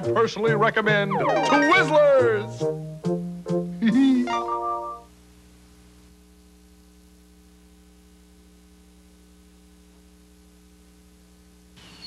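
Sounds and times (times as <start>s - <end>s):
faint electrical hum: 0.0s - 12.0s
tape hiss: 0.0s - 12.0s.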